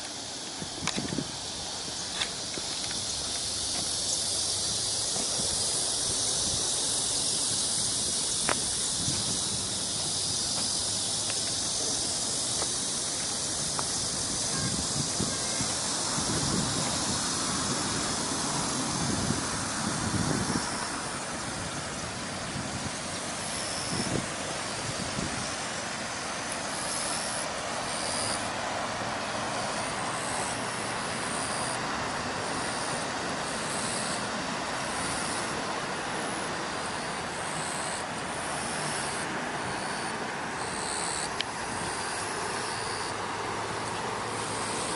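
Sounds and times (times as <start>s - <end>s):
high-pitched outdoor hiss: 0.0s - 44.9s.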